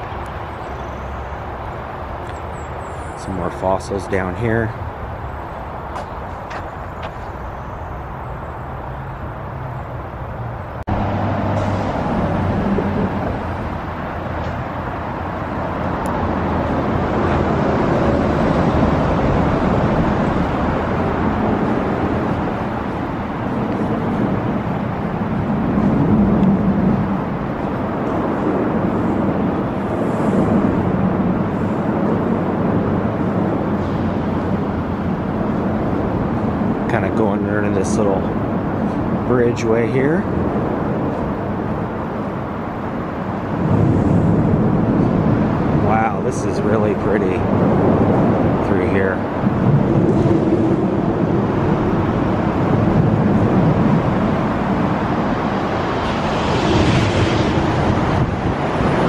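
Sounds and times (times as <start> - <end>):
road traffic in underpass: 0.0 - 59.0.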